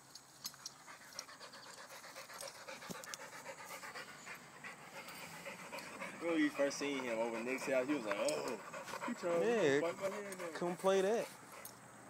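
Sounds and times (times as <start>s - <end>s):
dog panting rapidly: 0.7s - 11.8s.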